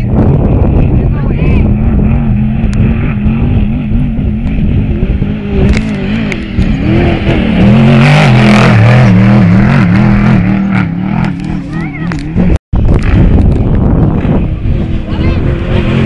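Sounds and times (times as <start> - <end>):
rushing noise: 0.0 - 16.0
truck engine revving: 0.0 - 16.0.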